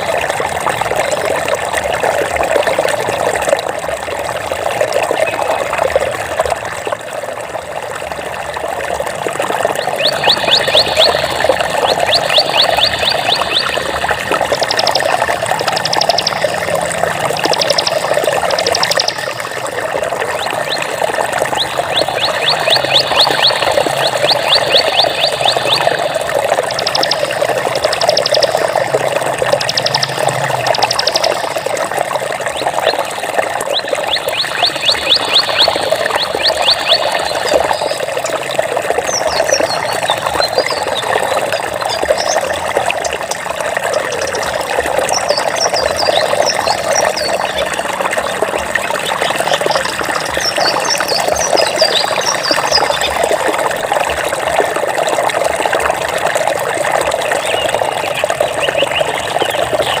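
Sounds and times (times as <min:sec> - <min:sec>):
stream water rushing: 0:00.0 - 1:00.0.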